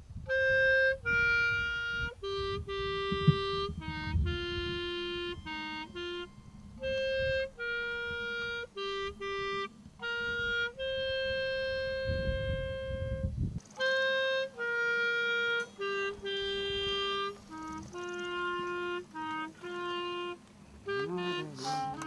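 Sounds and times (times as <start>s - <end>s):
solo wind instrument tune: 0.0s - 22.0s.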